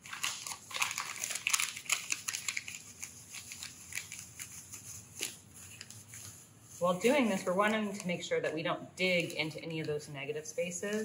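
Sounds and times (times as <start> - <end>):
paper scratching and crinkling: 0.0 - 8.4, 9.0 - 11.0.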